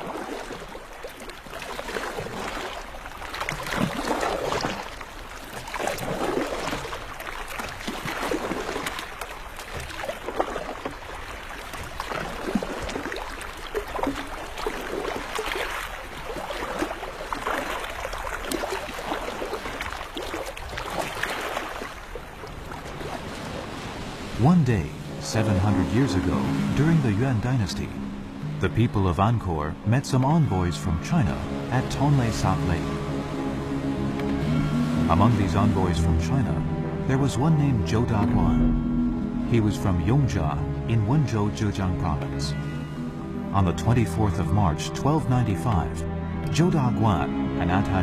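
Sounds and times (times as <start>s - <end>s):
water splashing around rowing boat: 0.0s - 48.0s.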